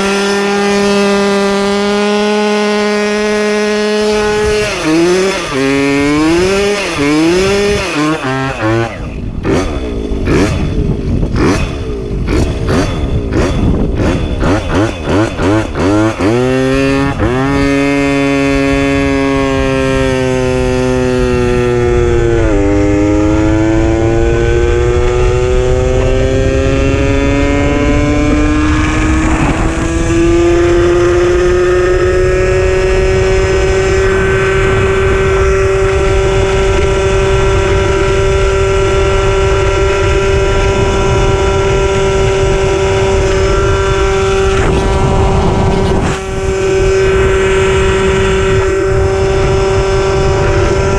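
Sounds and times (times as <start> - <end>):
low wind rumble on microphone: 0.0 - 50.9
moped engine running: 0.0 - 50.9.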